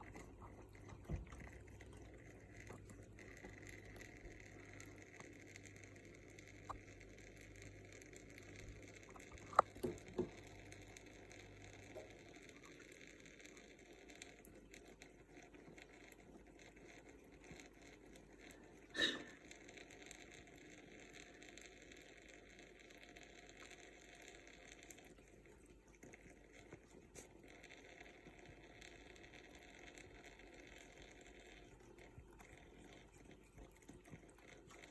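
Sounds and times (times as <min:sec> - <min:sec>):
running tap water trickling: 0:00.0 - 0:34.9.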